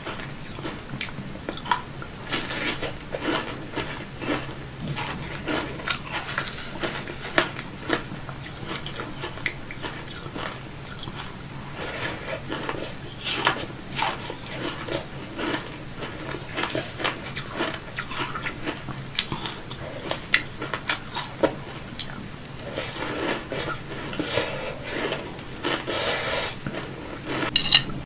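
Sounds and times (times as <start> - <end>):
food crunching while chewing: 0.0 - 28.0.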